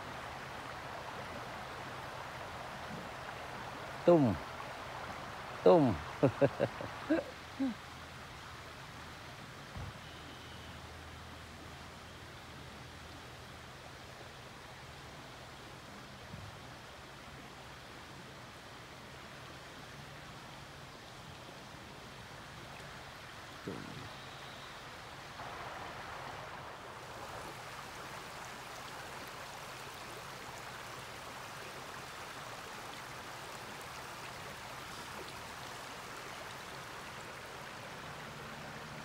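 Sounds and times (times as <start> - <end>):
creek flowing: 0.0 - 39.0.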